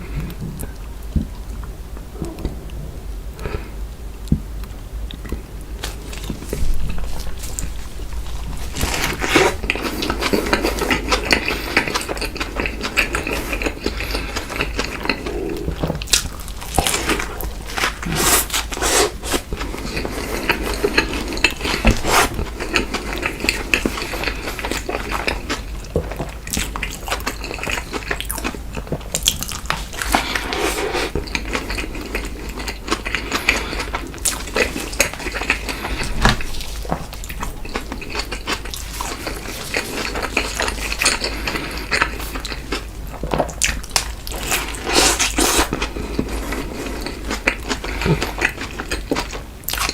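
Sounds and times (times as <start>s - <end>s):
person chewing food: 3.4s - 49.9s.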